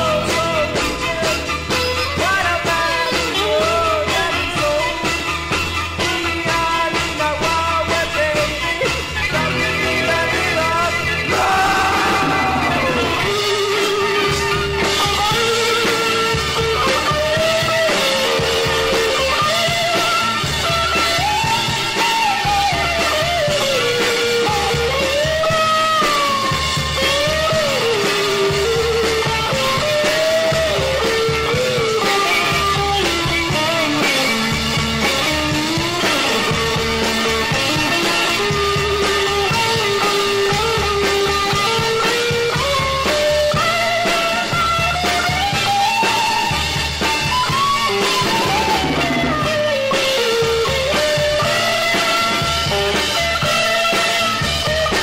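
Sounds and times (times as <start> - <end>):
psychedelic rock band: 0.0 - 55.0
lead guitar bending melody: 8.3 - 55.0.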